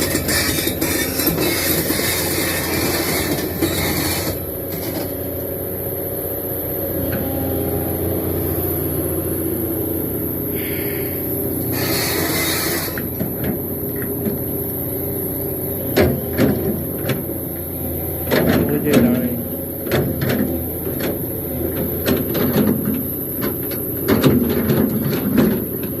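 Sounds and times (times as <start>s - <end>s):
excavator diesel engine rumble: 0.0s - 26.0s.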